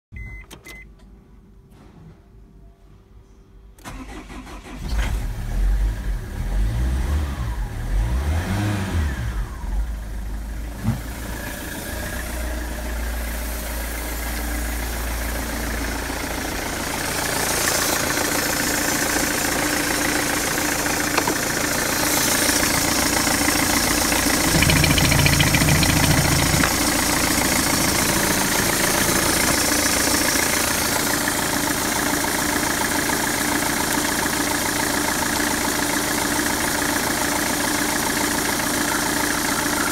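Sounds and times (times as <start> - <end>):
diesel engine starting and idling: 3.8 - 39.9.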